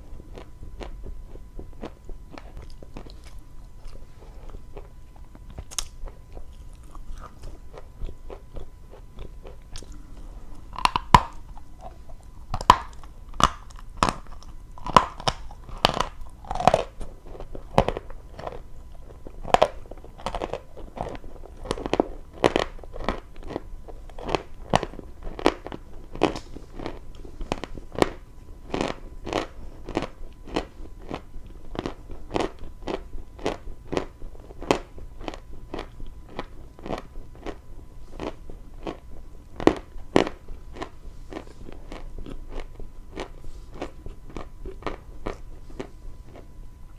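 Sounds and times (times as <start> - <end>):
chalk being chewed: 0.1 - 39.0, 39.6 - 46.5.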